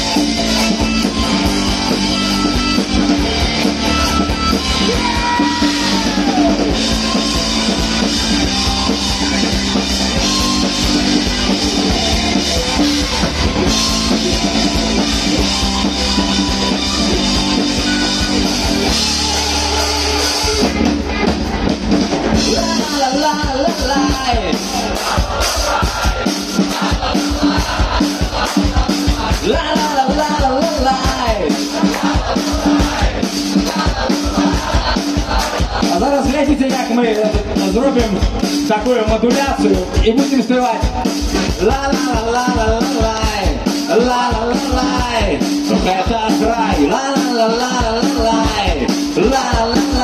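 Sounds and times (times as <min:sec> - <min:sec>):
live rock band playing: 0:00.0 - 0:50.0.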